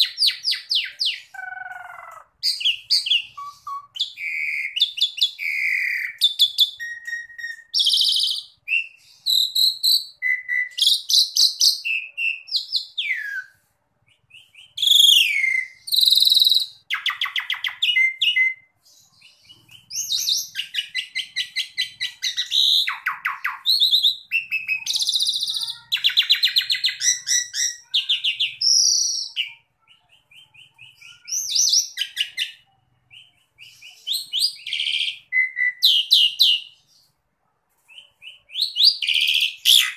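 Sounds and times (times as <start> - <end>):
starling singing: 0.0 - 37.1, 37.9 - 39.9.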